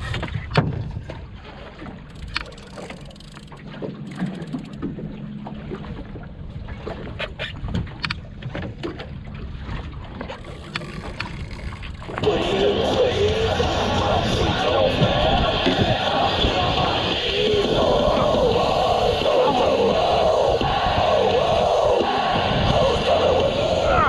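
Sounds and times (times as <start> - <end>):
water against hull: 0.0 - 24.0
wind: 0.0 - 24.0.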